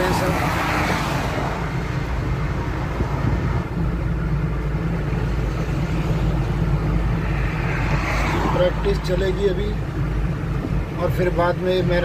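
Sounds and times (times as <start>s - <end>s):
car engine rumble: 0.0s - 12.0s
tyre noise on road: 0.0s - 12.0s.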